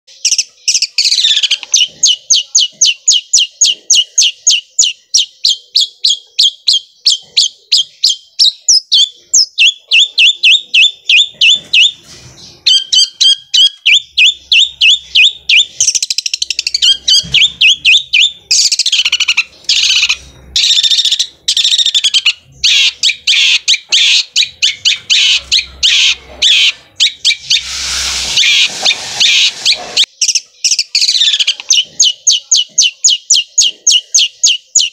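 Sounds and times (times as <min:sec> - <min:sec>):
bird singing rattling trills: 0:00.1 - 0:34.9.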